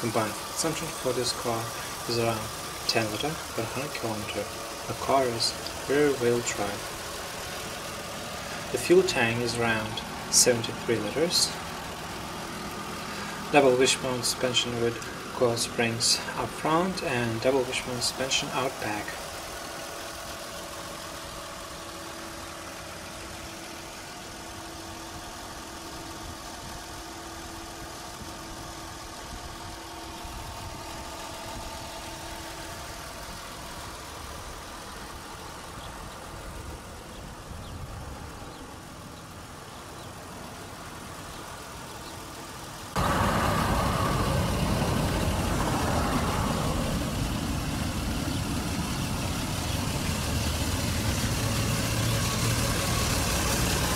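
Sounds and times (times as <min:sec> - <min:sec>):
car engine idling: 0:00.0 - 0:53.9.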